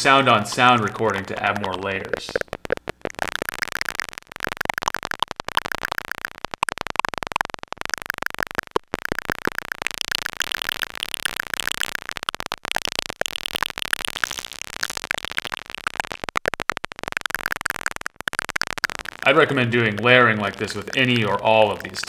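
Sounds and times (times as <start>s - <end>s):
synthesizer clicks and blips: 0.0s - 22.0s.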